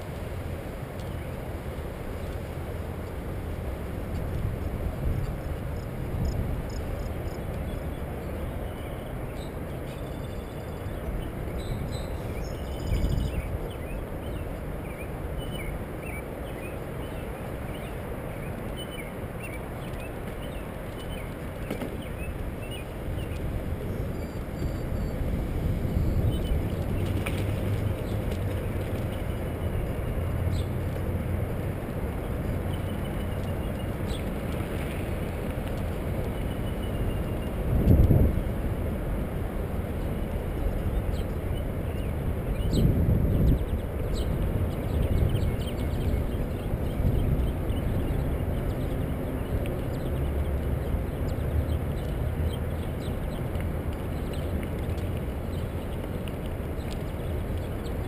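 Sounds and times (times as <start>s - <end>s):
bicycle rolling rumble: 0.0s - 58.0s
wind: 0.0s - 58.0s.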